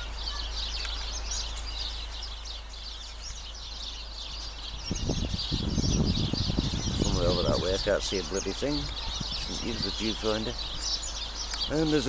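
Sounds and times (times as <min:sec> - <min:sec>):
low rumble on microphone: 0:00.0 - 0:11.9
small birds chirping: 0:00.0 - 0:12.0.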